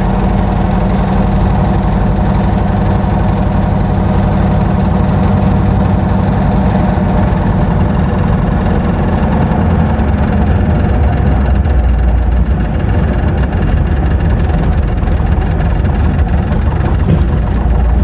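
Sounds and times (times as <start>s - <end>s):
propeller engine at takeoff power: 0.0s - 18.0s.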